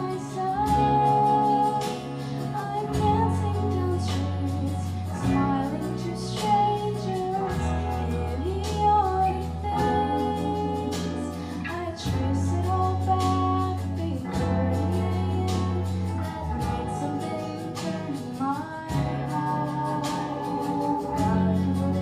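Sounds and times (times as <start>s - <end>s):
low bass: 0.0s - 22.0s
person singing: 0.0s - 22.0s
strummed guitar: 0.0s - 22.0s.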